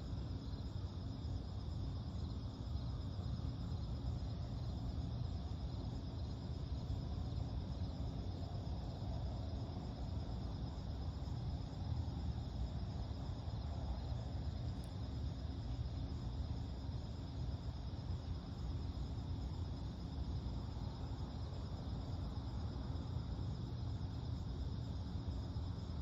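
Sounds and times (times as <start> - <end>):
crickets chirping: 0.0 - 26.0
low steady rumble: 0.0 - 26.0.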